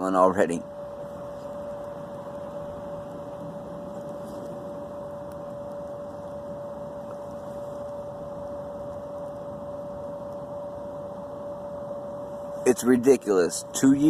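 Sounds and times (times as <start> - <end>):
steady whining tone: 0.0 - 14.0.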